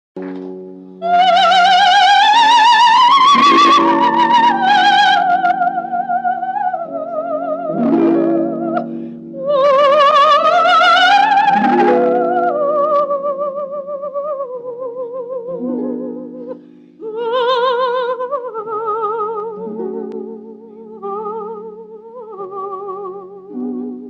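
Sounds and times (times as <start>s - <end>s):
soprano singing with vibrato: 1.0s - 24.0s.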